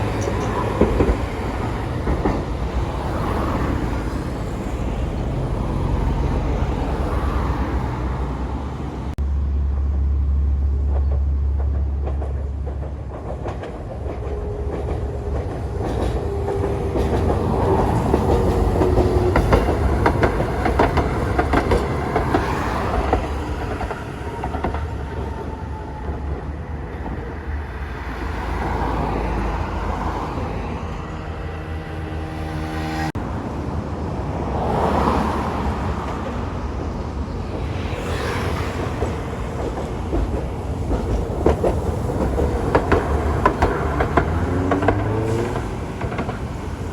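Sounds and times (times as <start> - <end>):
train wheels clattering on rails: 0.0 - 8.1, 10.8 - 30.2, 34.9 - 46.9.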